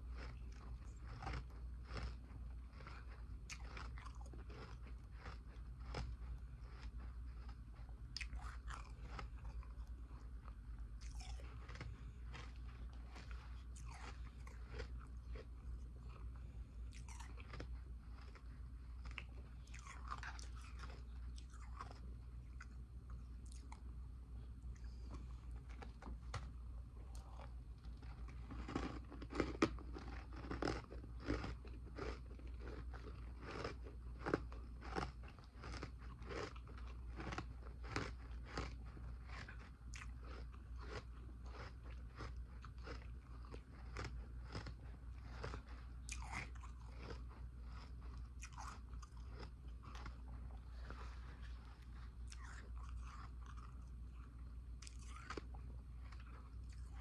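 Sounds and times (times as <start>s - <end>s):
ice being chewed: 0.0s - 23.9s, 24.6s - 57.0s
steady low hum: 0.0s - 57.0s.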